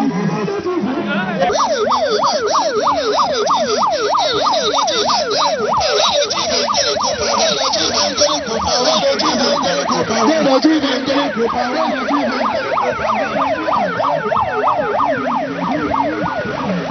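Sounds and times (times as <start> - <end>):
electronic sirens yelping: 0.0 - 16.9.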